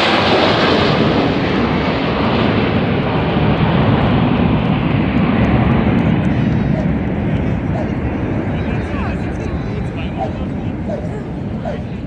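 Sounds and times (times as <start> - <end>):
jets flying overhead: 0.0 - 12.0.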